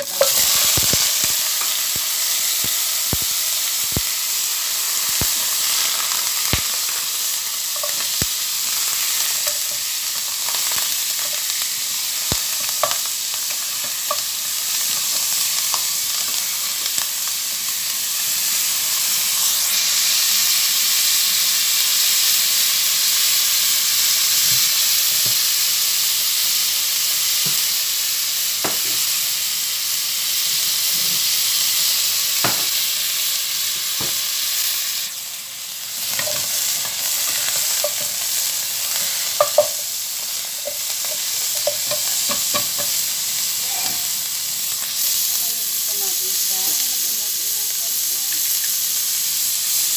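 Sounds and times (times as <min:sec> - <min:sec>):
meat sizzling in hot oil: 0:00.0 - 0:49.9.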